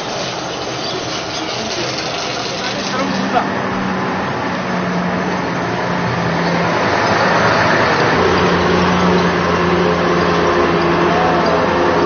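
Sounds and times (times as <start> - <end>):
engine hum: 0.0 - 12.0
street traffic noise: 0.0 - 12.0.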